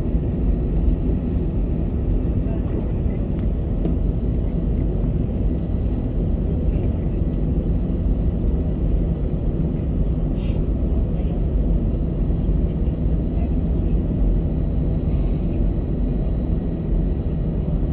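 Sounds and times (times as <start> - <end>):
jet engine cabin rumble: 0.0 - 17.9.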